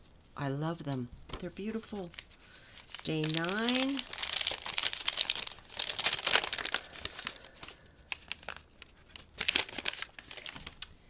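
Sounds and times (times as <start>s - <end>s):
packaging crinkling: 1.4s - 10.9s.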